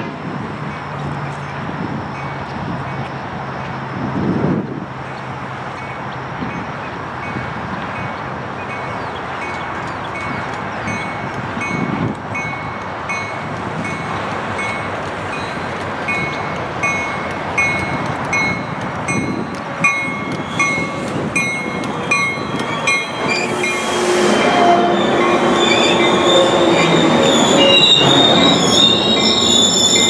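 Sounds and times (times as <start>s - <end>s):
train running on rails: 0.0s - 30.0s
railway bell ringing: 5.2s - 30.0s.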